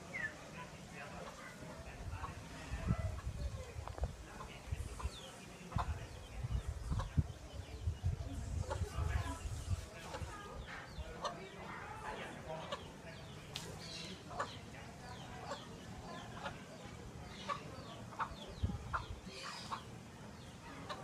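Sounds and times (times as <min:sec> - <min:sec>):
chicken clucking: 0:02.2 - 0:07.8, 0:08.4 - 0:13.0, 0:13.9 - 0:21.0.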